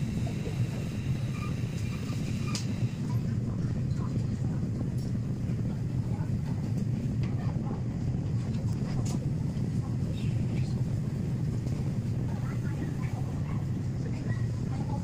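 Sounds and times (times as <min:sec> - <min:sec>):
potter's wheel spinning: 0:00.0 - 0:15.0.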